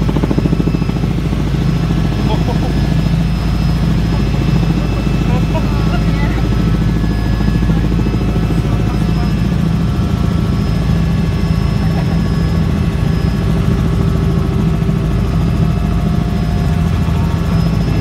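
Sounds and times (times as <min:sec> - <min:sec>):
helicopter rotor drone from cabin: 0:00.0 - 0:18.0.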